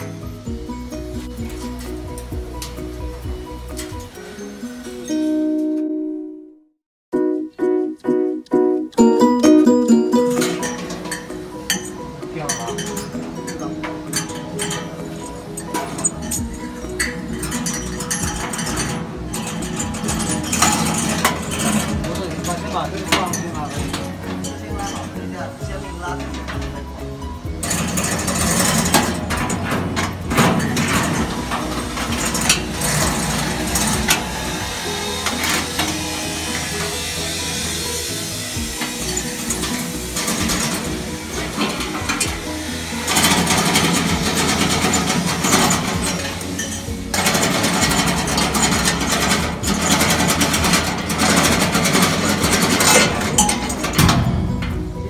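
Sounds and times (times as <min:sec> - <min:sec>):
sharp metal clanks: 0:10.1 - 0:55.0
machine mechanical clatter: 0:10.3 - 0:55.0.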